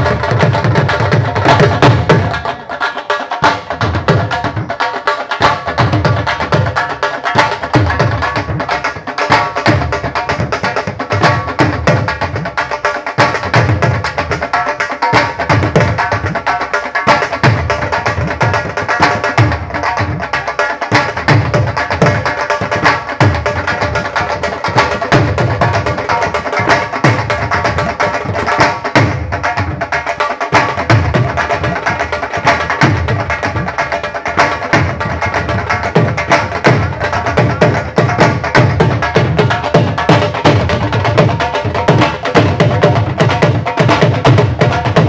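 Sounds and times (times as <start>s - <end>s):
drums in fast rhythm: 0.0s - 45.0s.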